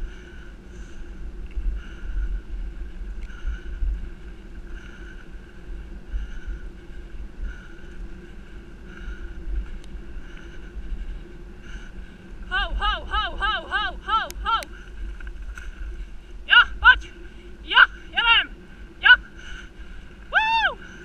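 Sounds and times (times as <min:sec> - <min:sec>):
bicycle rolling on dirt trail: 0:00.0 - 0:12.5, 0:13.7 - 0:21.0
wind buffeting microphone: 0:00.0 - 0:21.0.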